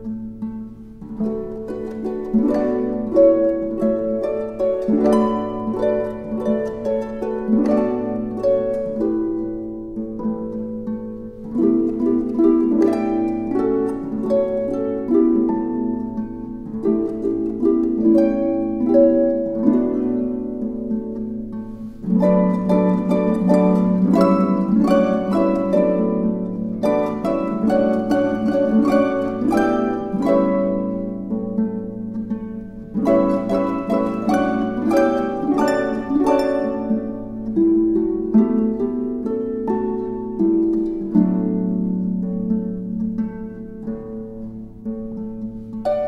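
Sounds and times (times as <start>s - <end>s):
solo harp playing tango: 0.0s - 46.0s.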